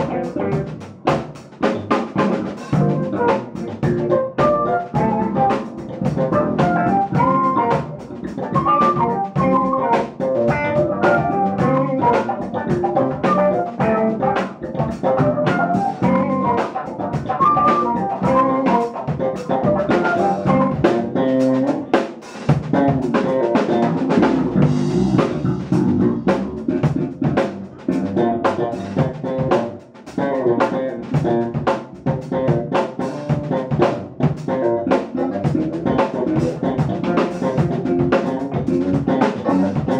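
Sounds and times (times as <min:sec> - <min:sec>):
jazz-funk band playing: 0:00.0 - 0:39.9.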